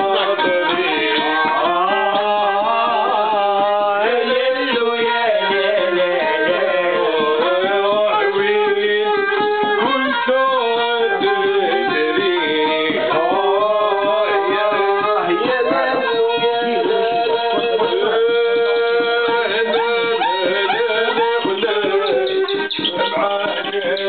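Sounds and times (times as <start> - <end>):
person singing: 0.0 - 24.0
violin playing ornamented melody: 0.0 - 24.0.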